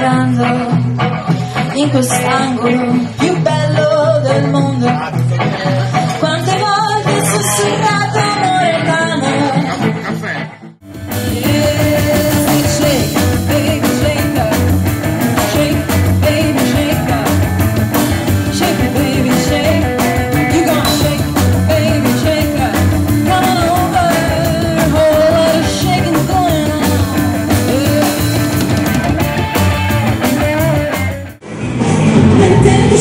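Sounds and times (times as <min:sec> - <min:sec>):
electric guitar lead: 0:00.0 - 0:33.0
rock band playing: 0:00.0 - 0:33.0.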